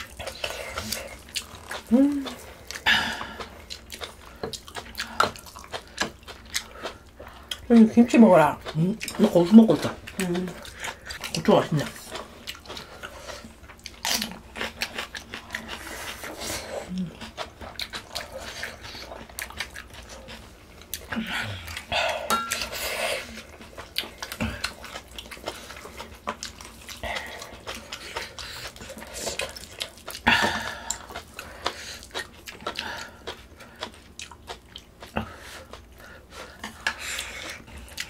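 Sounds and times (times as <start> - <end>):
chewing and wet mouth sounds: 0.0 - 38.0.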